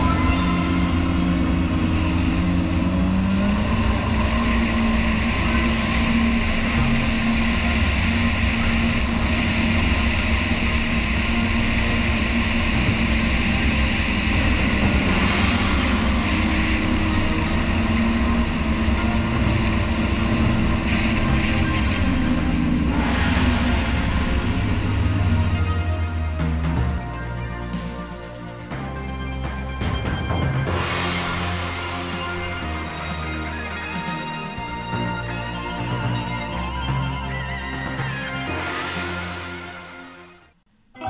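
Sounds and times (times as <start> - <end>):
jet ski engine drone: 0.0 - 40.4.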